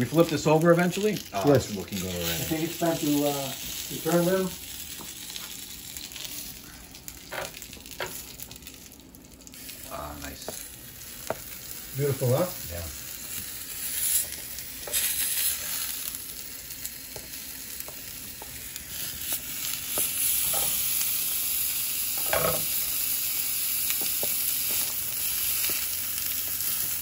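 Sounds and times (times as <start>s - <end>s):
meat breads sizzling on a grill: 0.0s - 27.0s.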